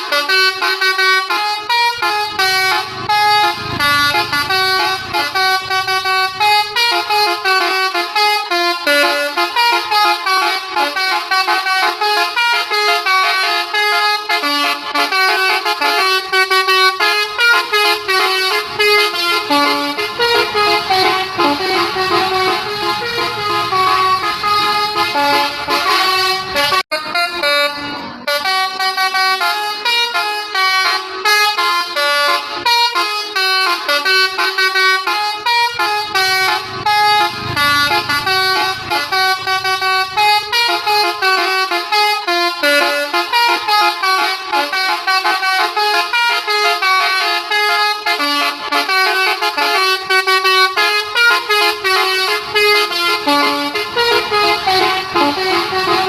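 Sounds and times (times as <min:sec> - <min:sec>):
bus horn playing tune: 0:00.0 - 0:56.0.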